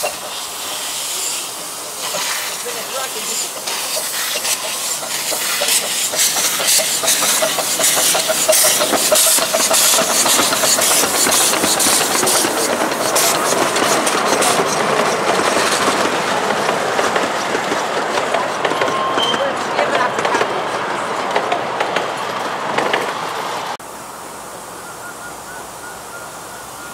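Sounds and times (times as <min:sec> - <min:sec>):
steady hiss of steam: 0:00.0 - 0:18.8, 0:21.6 - 0:26.9
steam locomotive exhaust chuffing: 0:00.0 - 0:23.8.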